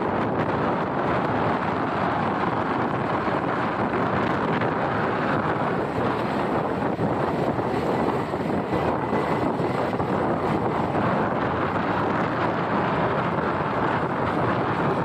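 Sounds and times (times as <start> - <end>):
motorbike running: 0.0 - 15.0
wind rushing over microphone: 0.0 - 15.0.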